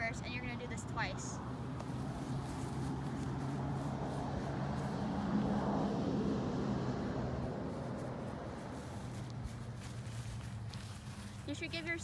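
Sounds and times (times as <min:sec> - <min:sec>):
vehicle engine and tyres: 0:00.0 - 0:12.0.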